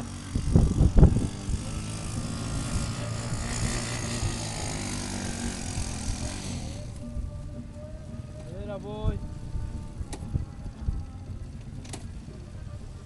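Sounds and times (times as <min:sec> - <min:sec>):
distant vehicle engine running: 0:00.0 - 0:13.0.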